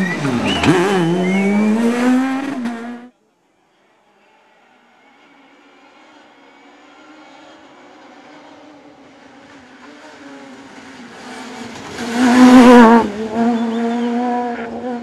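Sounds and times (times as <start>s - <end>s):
rally car engine passing: 0.0s - 3.2s, 3.8s - 15.0s.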